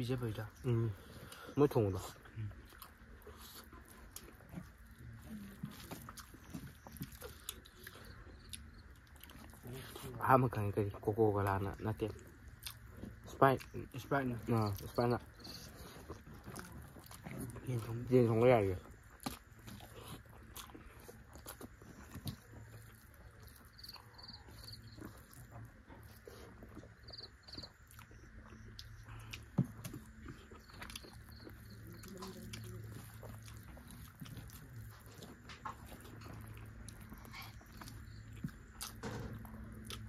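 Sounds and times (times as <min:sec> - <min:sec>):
people chewing food: 0:00.0 - 0:40.0.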